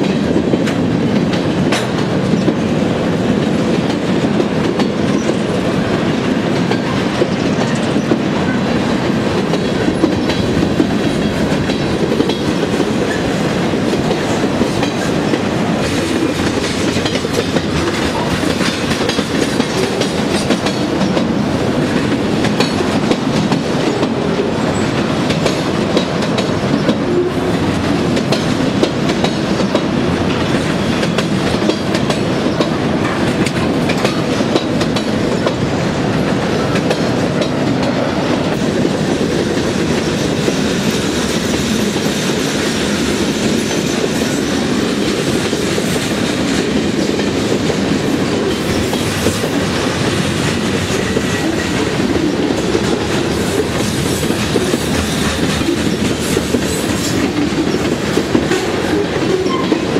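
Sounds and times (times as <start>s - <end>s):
rumble of train wheels on rail: 0.0s - 59.9s.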